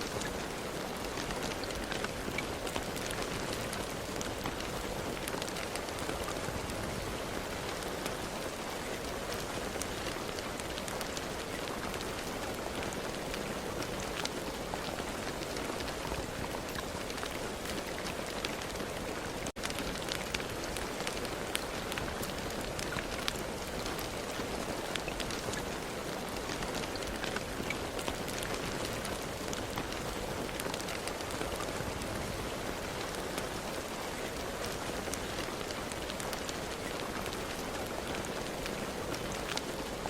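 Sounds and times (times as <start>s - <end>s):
rain drops ticking on a surface: 0.0s - 40.0s.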